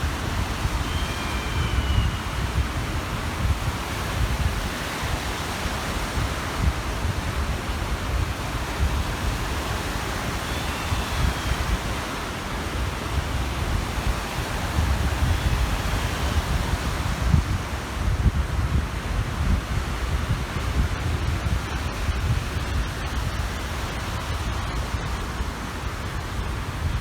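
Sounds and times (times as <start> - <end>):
waves washing onto shore: 0.0 - 27.0
wind buffeting microphone: 0.0 - 27.0.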